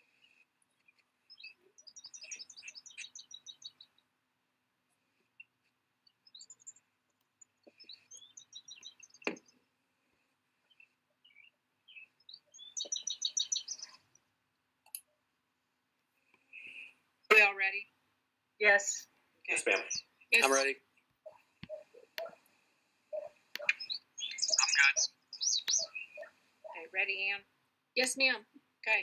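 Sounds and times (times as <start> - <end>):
songbird singing: 0.0 - 4.3, 5.0 - 15.2, 18.6 - 29.0.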